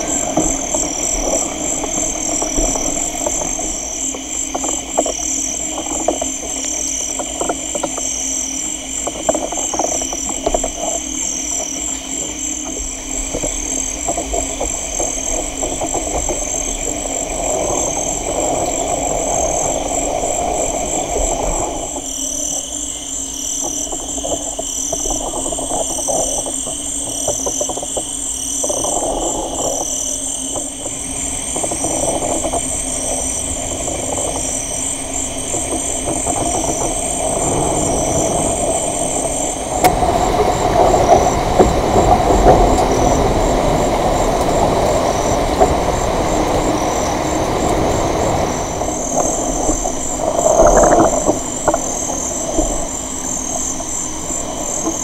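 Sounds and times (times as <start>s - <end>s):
rough noisy layer: 0.0s - 55.0s
steady low hum: 0.0s - 55.0s.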